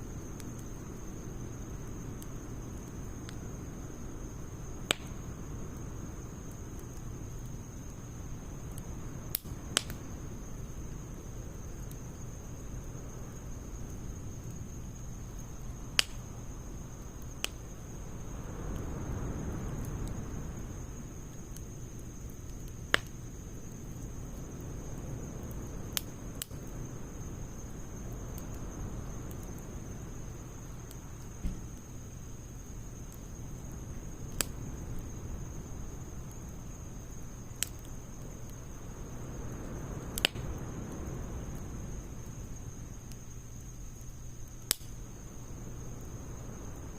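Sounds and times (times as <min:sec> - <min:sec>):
fire crackles: 0:00.0 - 0:46.9
wood fire flame rushing: 0:00.0 - 0:46.9.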